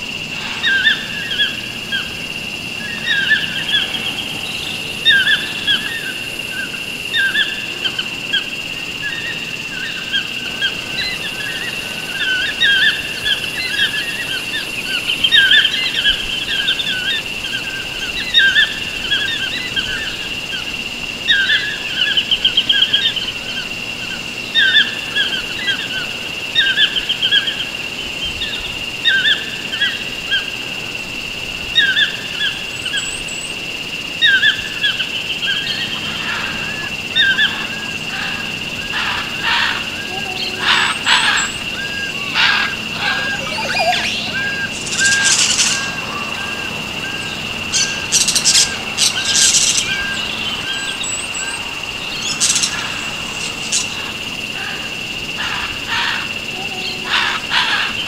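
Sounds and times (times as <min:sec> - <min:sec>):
continuous high steady tone: 0:00.0 - 0:25.1, 0:32.3 - 0:57.6
songbirds chirping and trilling: 0:00.0 - 0:58.0.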